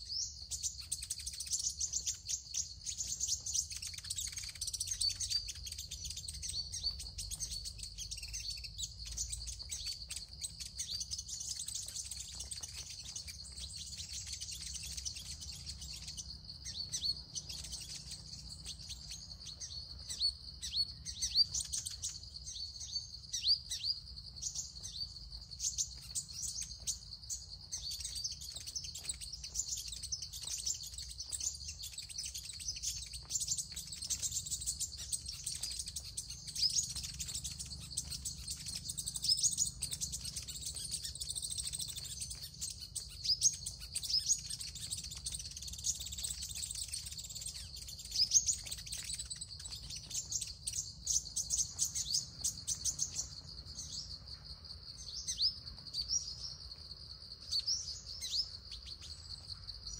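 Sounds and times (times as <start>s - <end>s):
sunbirds chirping: 0.0s - 59.9s.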